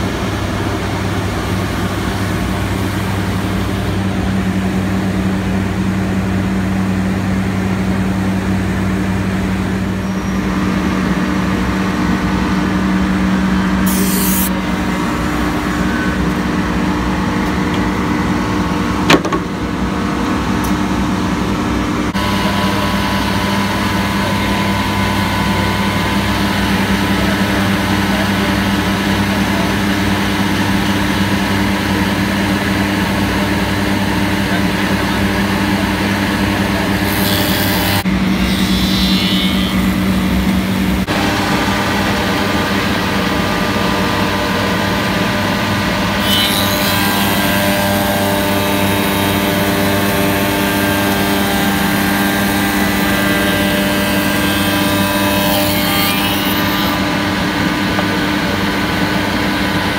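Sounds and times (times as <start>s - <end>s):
machine spindles humming: 0.0s - 59.9s.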